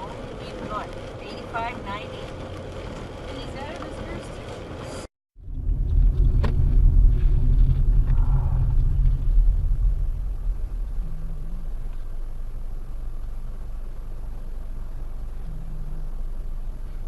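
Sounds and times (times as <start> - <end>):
car rumble on road: 0.0 - 17.0.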